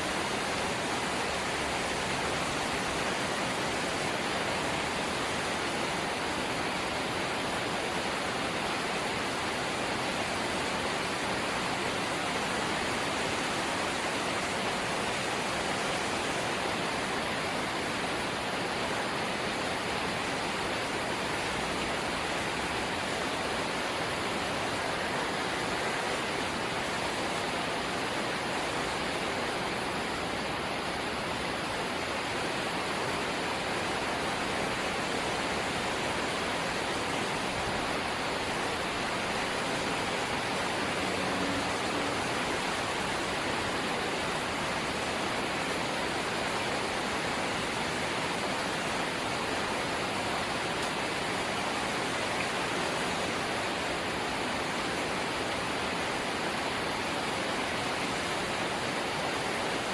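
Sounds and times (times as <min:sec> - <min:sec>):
light rain falling: 0:00.0 - 0:59.9.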